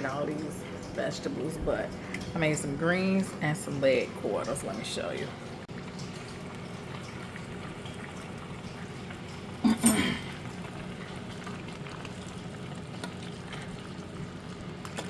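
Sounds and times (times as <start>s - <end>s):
kitchen background hiss: 0.0s - 15.0s.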